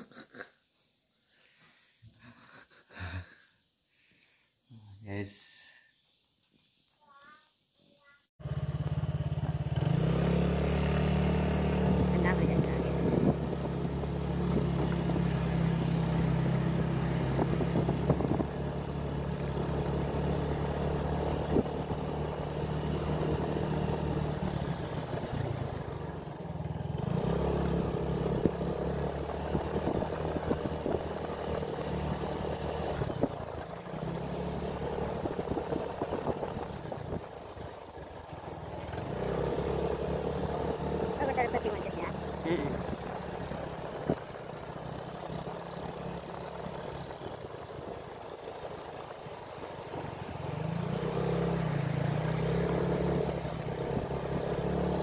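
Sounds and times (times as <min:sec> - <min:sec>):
small engine running: 0:08.4 - 0:55.0.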